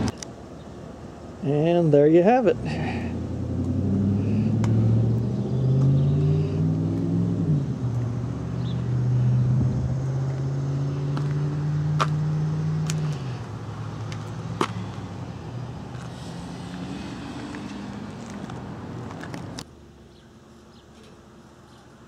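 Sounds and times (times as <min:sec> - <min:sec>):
vehicle engine idling: 0:00.0 - 0:06.6, 0:07.7 - 0:22.0.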